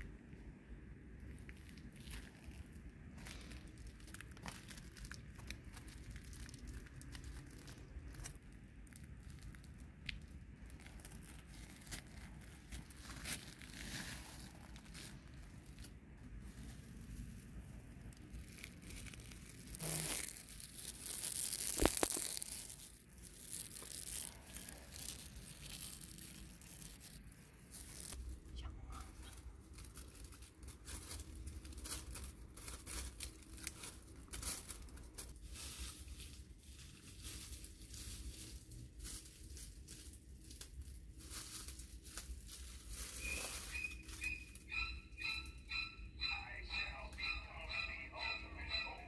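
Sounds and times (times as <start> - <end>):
dry leaves crackling and rustling: 1.3 - 28.2, 29.2 - 44.9.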